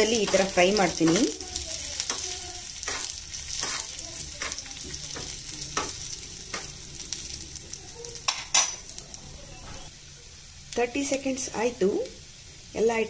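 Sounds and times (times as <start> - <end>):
spices sizzling in hot fat: 0.0 - 13.0.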